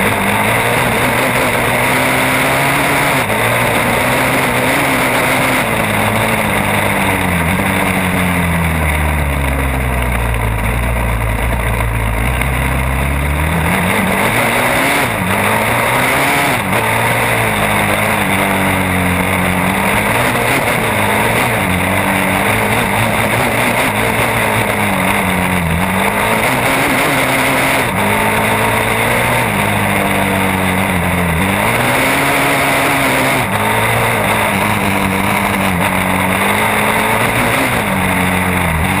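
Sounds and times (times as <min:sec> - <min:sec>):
quad engine revving: 0:00.0 - 0:39.0
wind and trail noise: 0:00.0 - 0:39.0.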